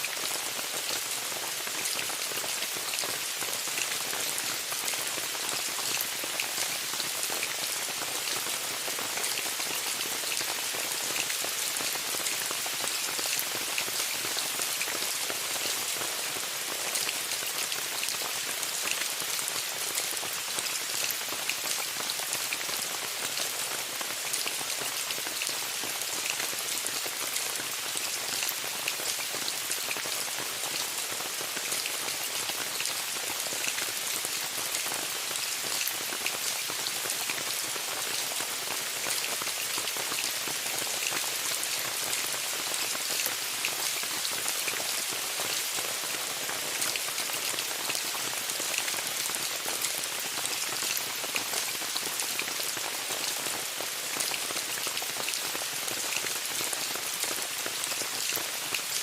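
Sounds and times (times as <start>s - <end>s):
rain pattering on a tent: 0.0s - 59.0s.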